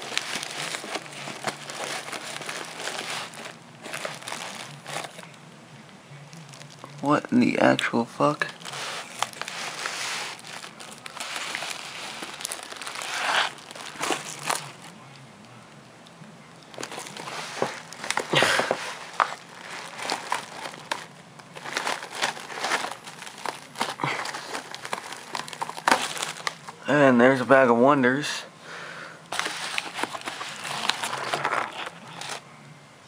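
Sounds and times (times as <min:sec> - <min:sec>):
packaging crinkling and rustling: 0:00.0 - 0:05.4, 0:06.1 - 0:07.2, 0:08.3 - 0:15.1, 0:16.7 - 0:26.8, 0:29.3 - 0:32.4.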